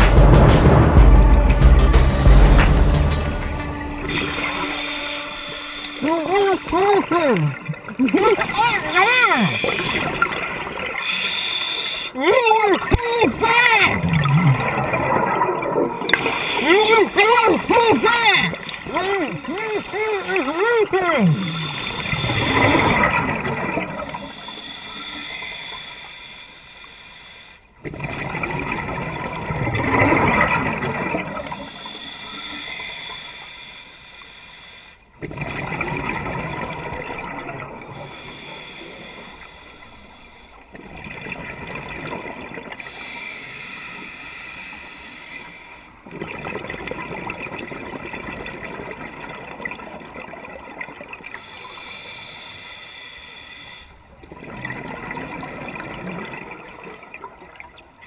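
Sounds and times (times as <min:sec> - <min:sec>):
water bubbling and gurgling: 0:00.0 - 0:58.0.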